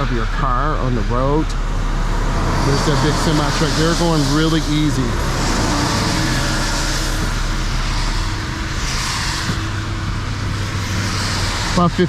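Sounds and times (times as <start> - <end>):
low road drone: 0.0 - 12.0
tyre hiss on wet road: 1.8 - 12.0.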